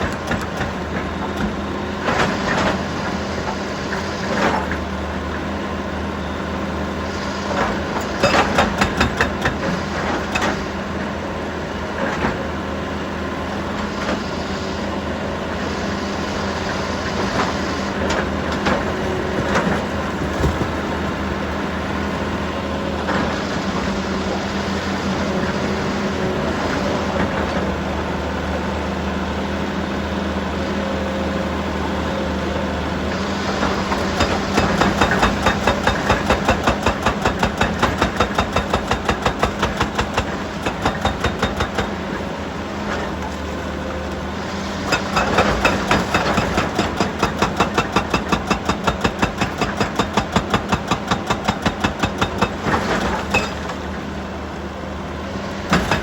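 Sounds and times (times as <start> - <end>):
diesel machinery running: 0.0 - 56.0.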